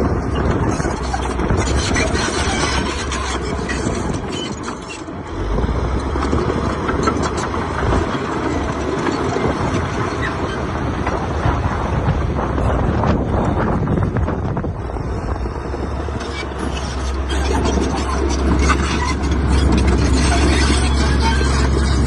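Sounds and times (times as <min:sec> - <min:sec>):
heavy diesel engine rumbling: 0:00.0 - 0:22.0
clanks and rattles: 0:00.4 - 0:15.4, 0:16.0 - 0:22.0.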